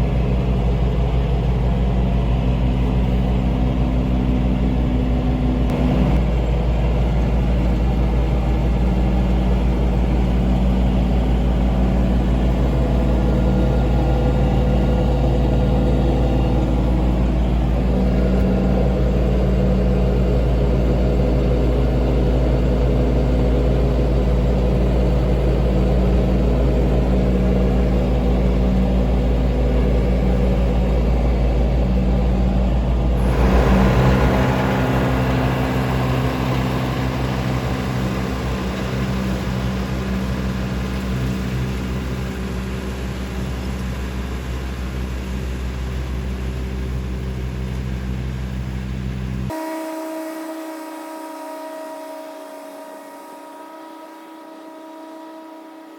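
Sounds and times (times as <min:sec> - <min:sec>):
tractor diesel engine mowing: 0:00.0 - 0:49.5.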